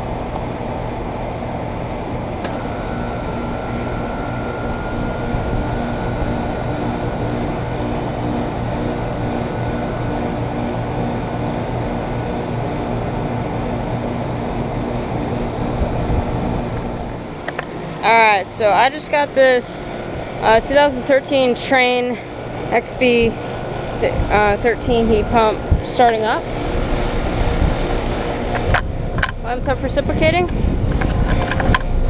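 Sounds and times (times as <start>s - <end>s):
faint high whine: 0.0s - 30.5s
compressor humming: 0.0s - 32.0s
fan rushing: 0.0s - 32.0s.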